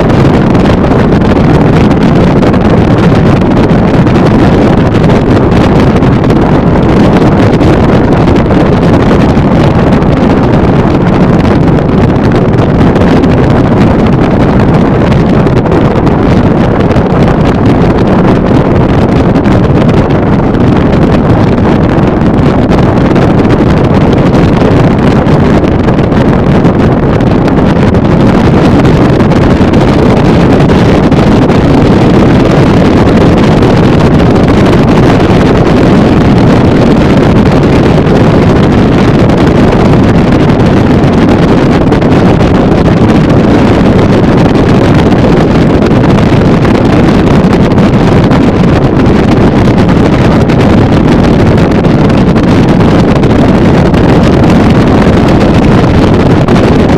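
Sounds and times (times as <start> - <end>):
motorboat engine and hull noise: 0.0 - 56.9
wind rushing on microphone: 0.0 - 56.9.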